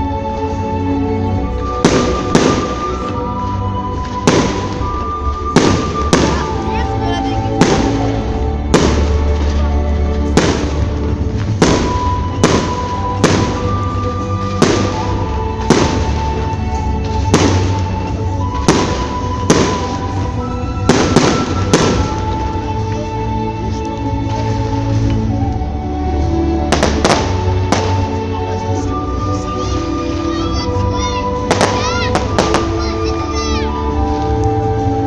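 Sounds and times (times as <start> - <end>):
music playing: 0.0 - 35.0
fireworks banging: 1.6 - 23.3, 26.6 - 34.9.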